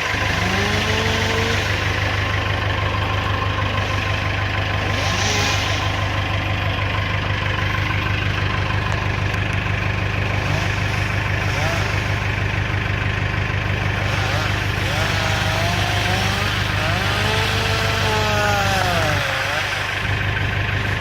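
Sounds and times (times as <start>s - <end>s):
heavy machinery engine idling: 0.0s - 21.0s.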